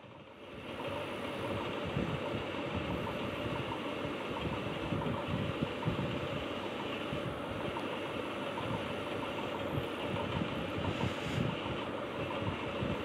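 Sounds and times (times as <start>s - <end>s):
steady mechanical running noise: 0.0s - 13.0s.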